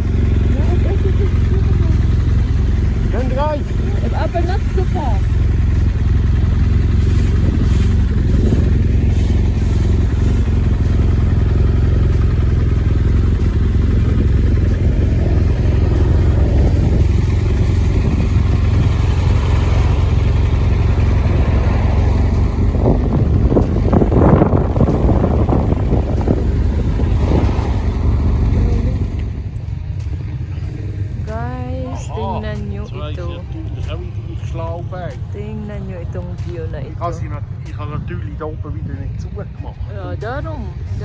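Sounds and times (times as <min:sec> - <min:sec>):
motorcycle engine rumble: 0:00.0 - 0:41.0
wind noise: 0:00.0 - 0:41.0.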